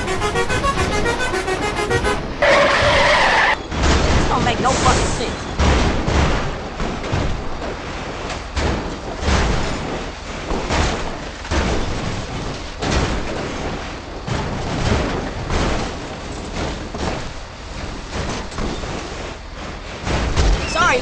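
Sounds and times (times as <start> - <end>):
heavy thuds and bangs: 0.0 - 21.0
rumbling noise: 0.0 - 21.0.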